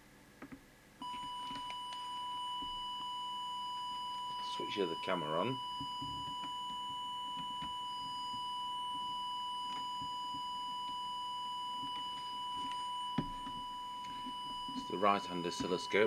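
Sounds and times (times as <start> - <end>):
steady test tone: 1.0 - 16.0.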